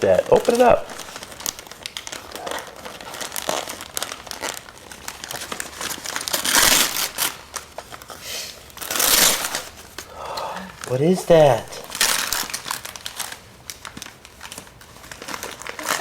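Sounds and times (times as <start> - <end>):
wrapping paper crinkling: 0.0 - 16.0.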